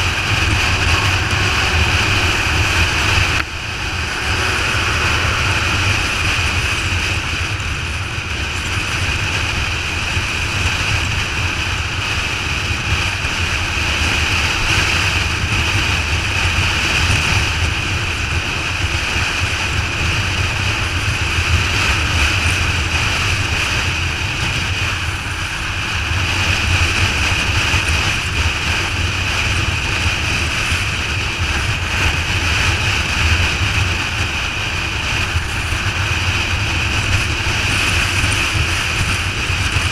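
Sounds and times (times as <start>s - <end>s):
motorcycle engine drone: 0.0s - 39.9s
road noise: 0.0s - 39.9s
wind rush over microphone: 0.0s - 39.9s.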